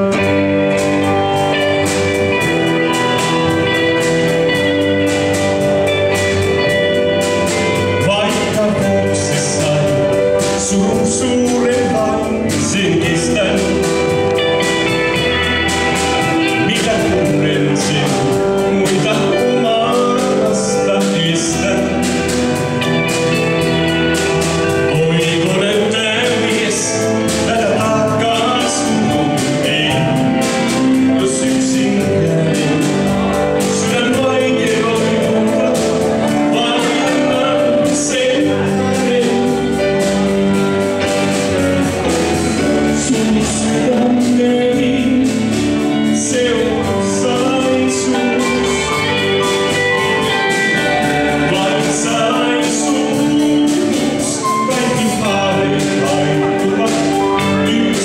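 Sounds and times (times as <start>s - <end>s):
drums: 0.0s - 58.0s
electric guitars: 0.0s - 58.0s
keyboard: 0.0s - 58.0s
man singing: 0.0s - 58.0s.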